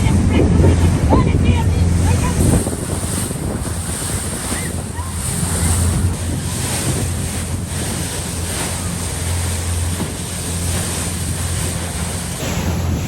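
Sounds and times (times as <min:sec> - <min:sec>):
ferry engine drone: 0:00.0 - 0:13.0
rushing water: 0:00.0 - 0:13.0
wind buffeting microphone: 0:00.0 - 0:13.0.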